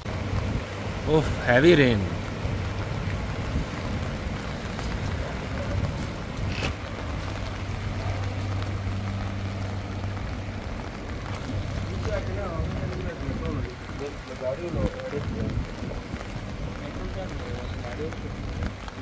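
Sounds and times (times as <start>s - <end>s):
heavy rain pouring: 0.0s - 19.0s
vehicle engine humming: 0.0s - 19.0s.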